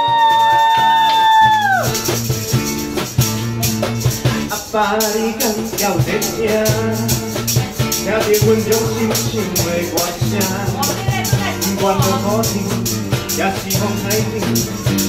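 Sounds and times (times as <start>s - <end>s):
electric bass: 0.0s - 4.9s, 5.6s - 15.0s
acoustic guitar: 0.0s - 15.0s
shaker percussion: 0.0s - 15.0s.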